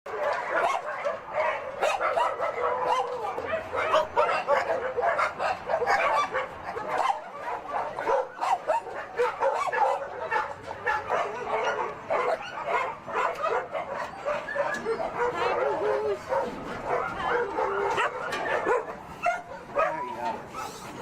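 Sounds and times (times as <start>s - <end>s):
many dogs barking and yelping: 0.1s - 21.0s.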